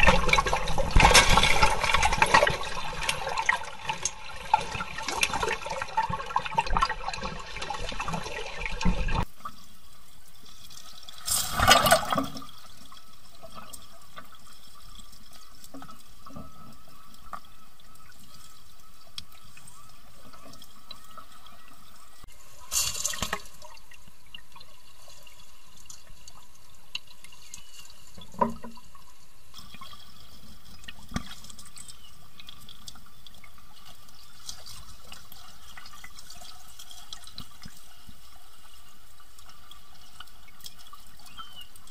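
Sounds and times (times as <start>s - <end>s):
stream water gurgling: 0.0s - 41.9s.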